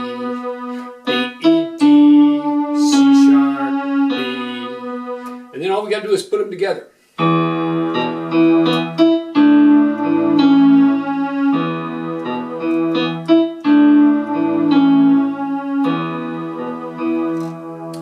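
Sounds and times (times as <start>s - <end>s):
electronic keyboard playing: 0.0s - 6.0s, 7.2s - 18.0s.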